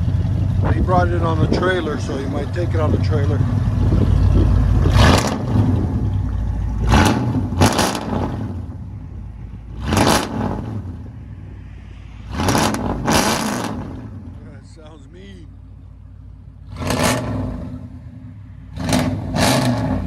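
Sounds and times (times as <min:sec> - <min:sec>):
truck engine idling and revving: 0:00.0 - 0:20.0.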